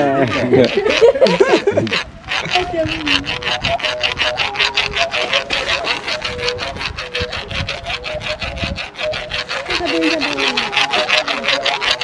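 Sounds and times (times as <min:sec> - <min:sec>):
musical bow rasping strokes: 0:00.0 - 0:12.0.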